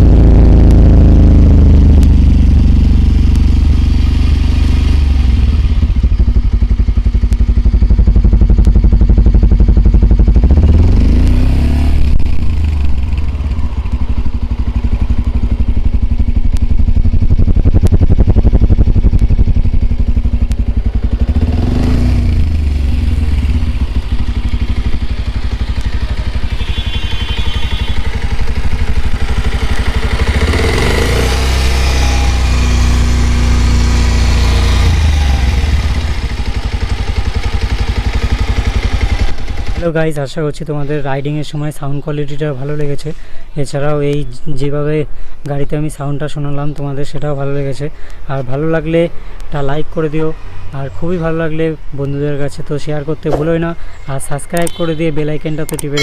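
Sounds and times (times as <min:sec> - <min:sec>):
motorcycle engine idling and revving: 0:00.0 - 0:44.0, 0:48.6 - 0:56.0.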